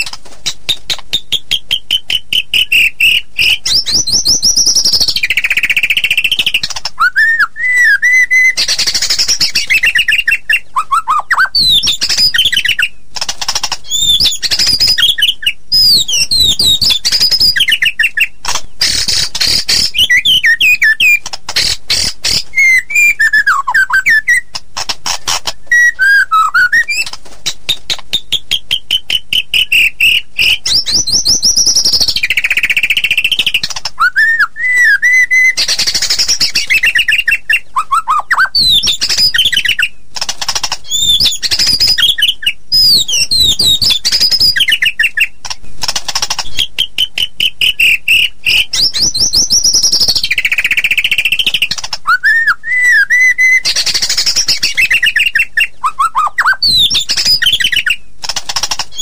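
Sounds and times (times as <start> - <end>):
bird singing whistles and trills: 0.0 - 13.1, 13.8 - 40.0, 40.8 - 45.4, 46.4 - 58.1.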